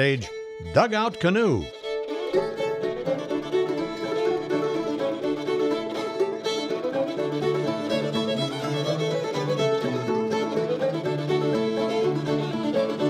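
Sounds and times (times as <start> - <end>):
fiddle melody: 0.0 - 13.0
mandolin: 1.5 - 13.0
banjo: 2.0 - 13.0
guitar: 2.4 - 13.0.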